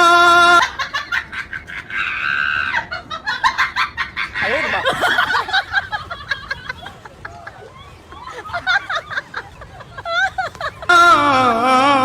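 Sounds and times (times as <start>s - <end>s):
high squawk-like cries: 0.0s - 12.0s.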